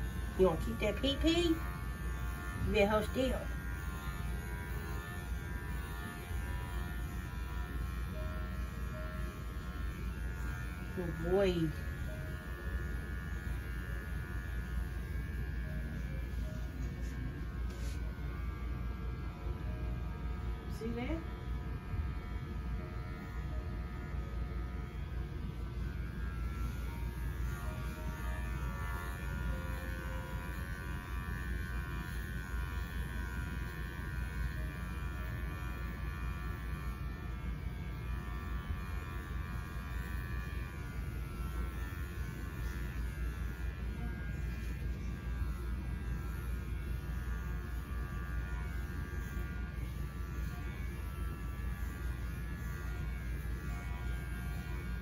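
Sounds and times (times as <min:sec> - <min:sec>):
electric clippers buzzing: 0:00.0 - 0:55.0.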